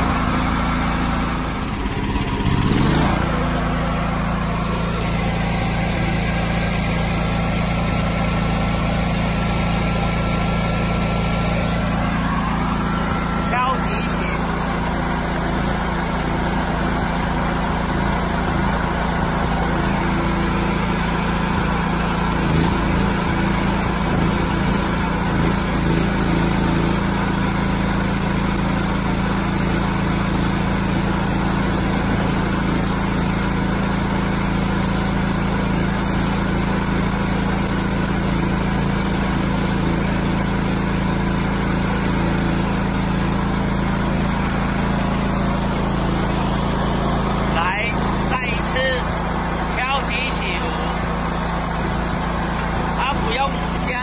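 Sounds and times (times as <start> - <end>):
petrol generator engine running: 0.0 - 54.0
welding arc hiss and crackle: 0.0 - 54.0.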